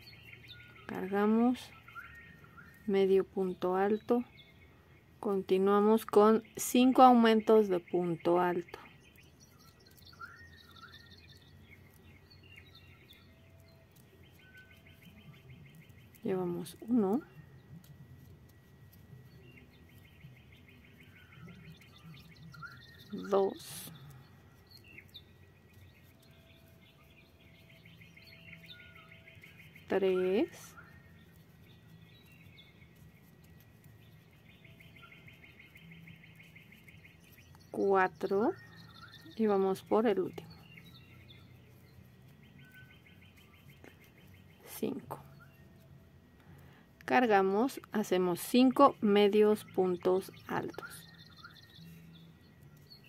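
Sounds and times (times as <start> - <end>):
faint bird chirps: 0.0 - 53.0.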